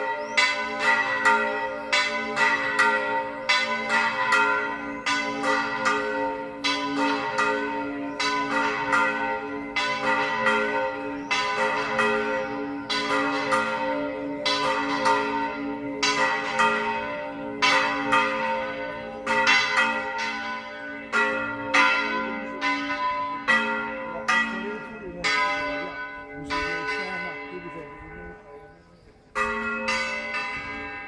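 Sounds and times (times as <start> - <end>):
church bells pealing: 0.0 - 31.0
hum of large bells: 0.0 - 31.0.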